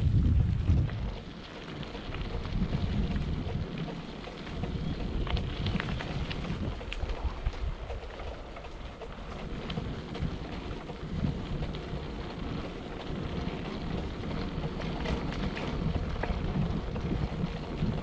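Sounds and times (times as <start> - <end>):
wind buffeting microphone: 0.0 - 18.0
faint clicks and rattles: 0.3 - 18.0.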